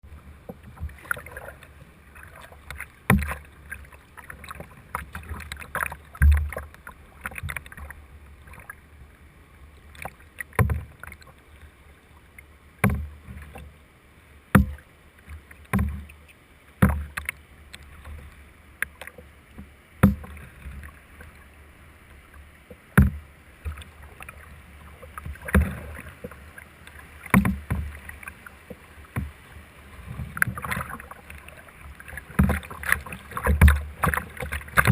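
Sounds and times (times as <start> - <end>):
low wash of water: 0.0 - 34.9
paddle strokes splashing: 0.0 - 34.9.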